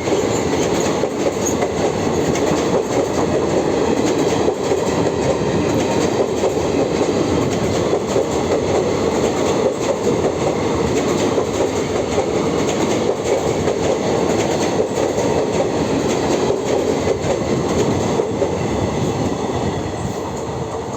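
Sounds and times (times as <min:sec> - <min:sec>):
train coaches rumbling past: 0:00.0 - 0:20.9.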